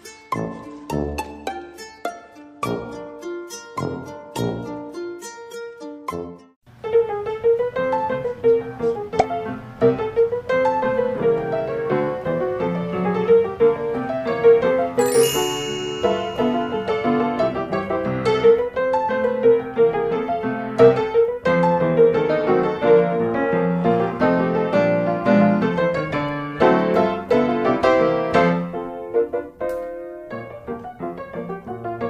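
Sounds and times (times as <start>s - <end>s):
piano background music: 0.0s - 5.2s, 5.8s - 32.0s.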